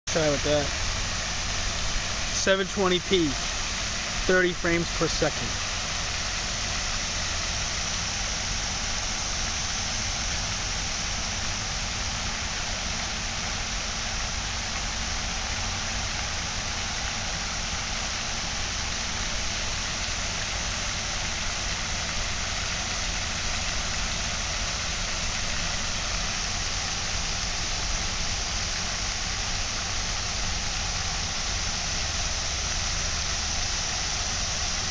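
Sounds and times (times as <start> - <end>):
fountain water splashing: 0.1 - 34.9.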